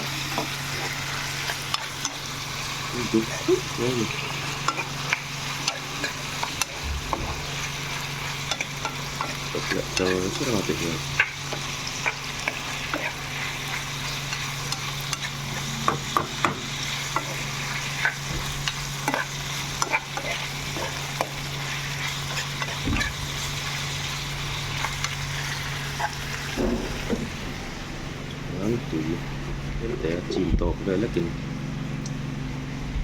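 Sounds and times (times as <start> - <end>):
food sizzling in a pan: 0.0 - 27.7
steady low hum: 0.0 - 33.0.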